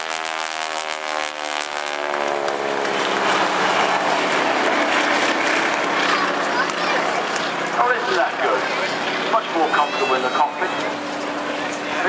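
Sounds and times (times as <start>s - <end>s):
broad rushing noise: 0.0s - 12.0s
radial aircraft engine fly-past: 0.0s - 12.0s.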